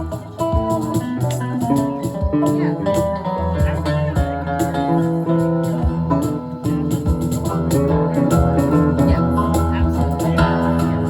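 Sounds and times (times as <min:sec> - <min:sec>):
bass guitar: 0:00.0 - 0:11.0.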